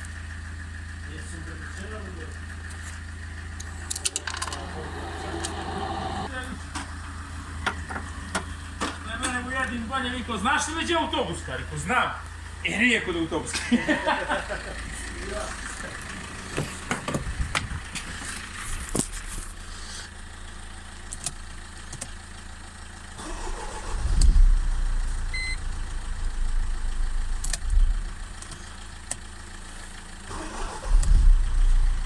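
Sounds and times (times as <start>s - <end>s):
car engine starting and running: 0.0s - 32.0s.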